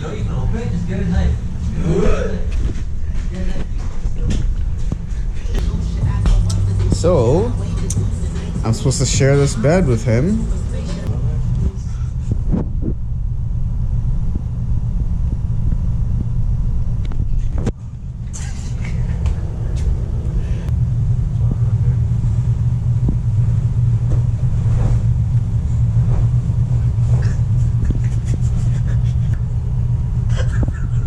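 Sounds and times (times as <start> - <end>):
car driving rumble: 0.0 - 31.0.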